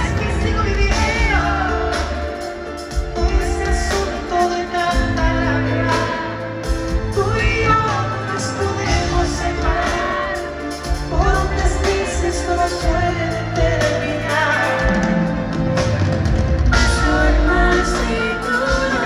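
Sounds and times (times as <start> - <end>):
live band music with vocals: 0.0 - 19.0.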